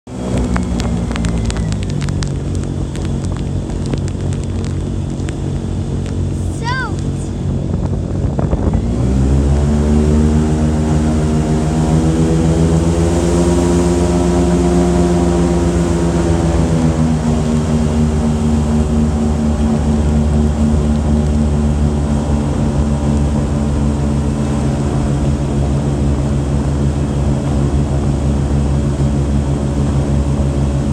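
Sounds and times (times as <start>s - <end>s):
engine revving and running: 0.0s - 6.4s, 7.0s - 30.9s.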